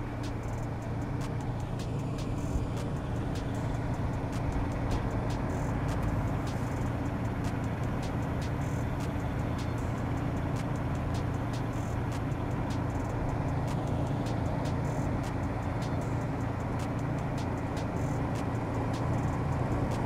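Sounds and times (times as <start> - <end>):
engine idling: 0.0 - 20.0
faint regular ticking: 0.0 - 20.0.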